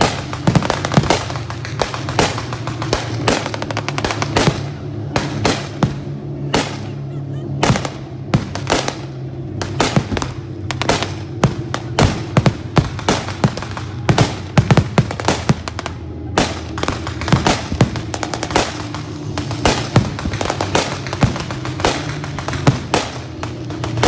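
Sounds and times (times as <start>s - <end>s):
sharp bangs of gunfire: 0.0s - 24.0s
steady low drone: 0.0s - 24.0s.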